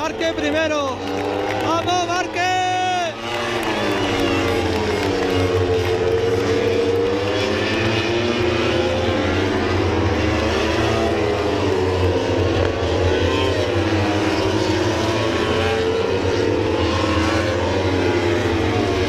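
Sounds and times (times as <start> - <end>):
race motorcycle engines passing: 0.0 - 19.0.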